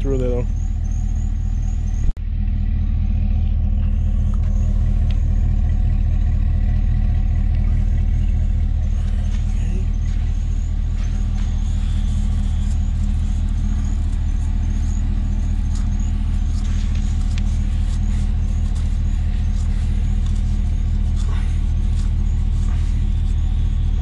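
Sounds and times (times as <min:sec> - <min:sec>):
faint high chirp: 0:00.0 - 0:06.1, 0:06.9 - 0:24.0
pickup truck engine idling: 0:00.0 - 0:24.0.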